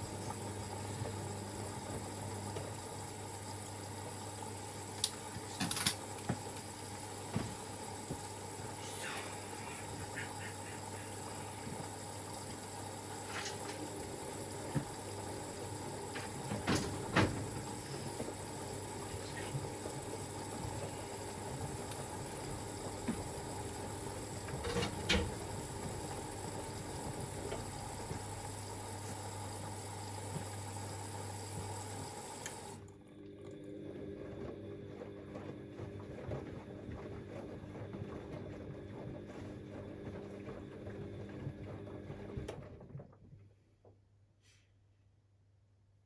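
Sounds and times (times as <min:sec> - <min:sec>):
washing machine motor hum: 0:00.0 - 0:43.6
water swishing in washing machine: 0:00.0 - 0:43.6.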